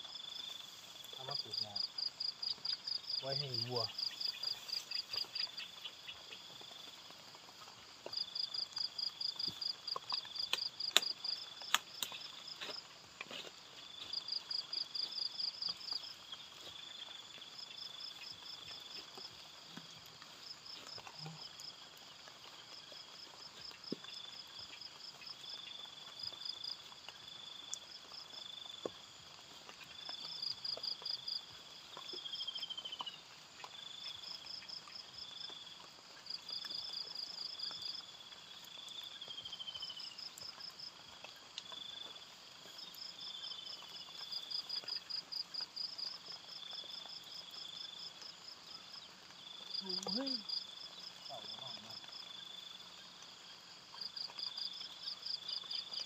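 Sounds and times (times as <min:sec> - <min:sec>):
insects chirping: 0:00.0 - 0:56.0
lower insect trill: 0:00.0 - 0:56.0.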